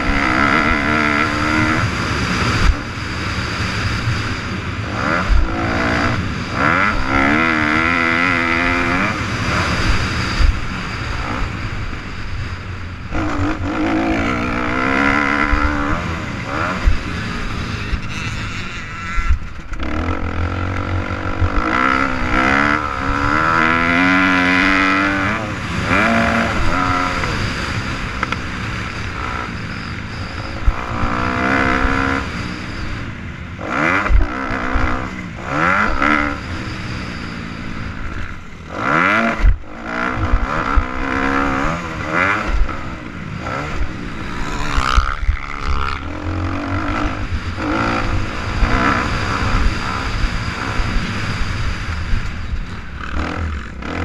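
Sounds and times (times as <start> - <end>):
motocross bike engine revving: 0.0 - 54.0
wind rushing over microphone: 0.0 - 54.0.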